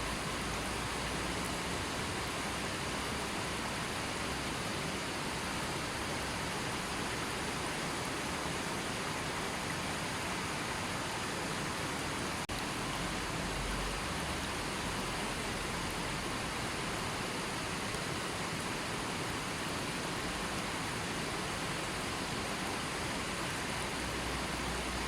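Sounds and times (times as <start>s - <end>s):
river flowing: 0.0s - 25.0s.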